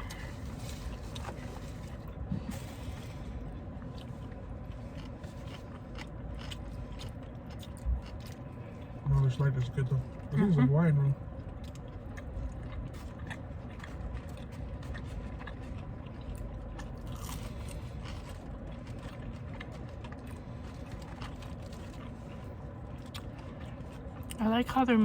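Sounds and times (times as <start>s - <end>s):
chewing and crunching: 0.0s - 25.0s.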